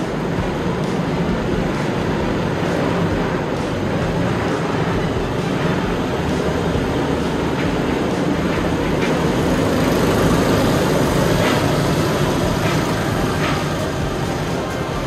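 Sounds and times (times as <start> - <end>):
go-kart engines passing: 0.0 - 15.0.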